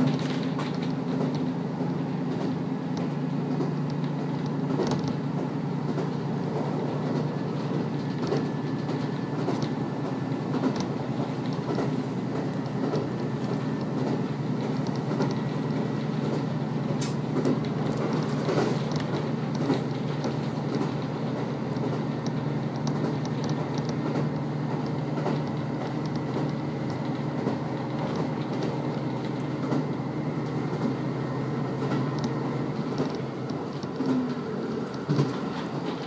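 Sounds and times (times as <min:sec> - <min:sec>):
railcar engine and wheels droning: 0:00.0 - 0:36.0.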